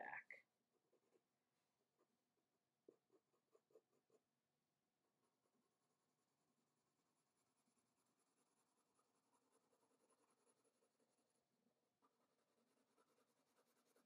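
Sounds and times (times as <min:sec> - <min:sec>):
pencil scratching on paper: 0:00.6 - 0:14.0.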